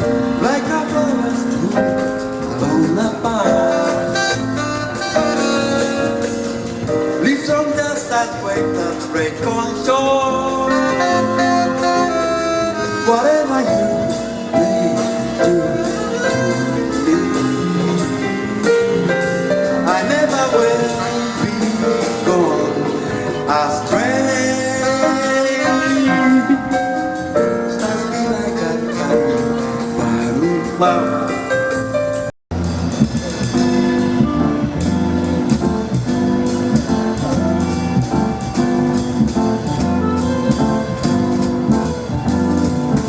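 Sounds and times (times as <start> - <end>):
jazz combo playing: 0.0 - 43.0.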